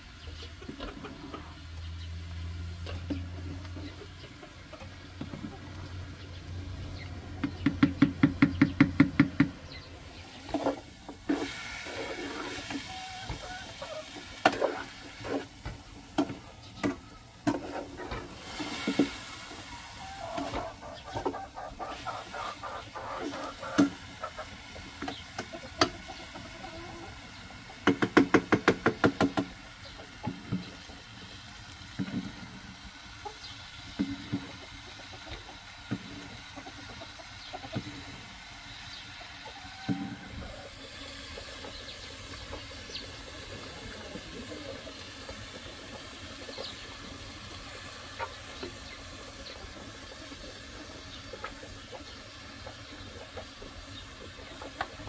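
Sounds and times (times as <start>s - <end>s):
frying and boiling hiss: 0.0s - 55.0s.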